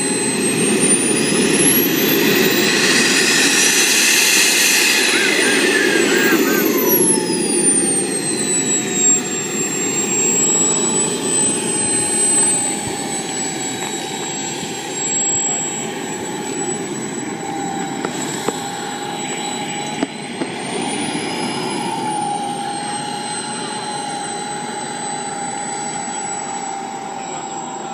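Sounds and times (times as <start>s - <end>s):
jet turbine engine whining: 0.0s - 27.9s.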